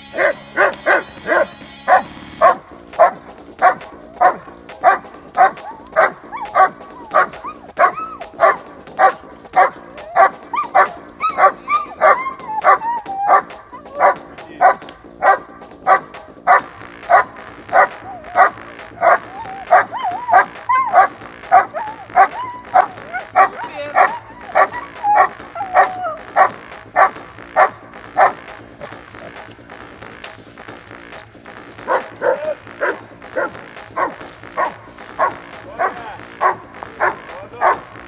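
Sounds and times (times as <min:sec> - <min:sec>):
dog barking: 0:00.1 - 0:29.3, 0:31.9 - 0:38.0
dog whining: 0:00.2 - 0:29.4, 0:31.9 - 0:37.8.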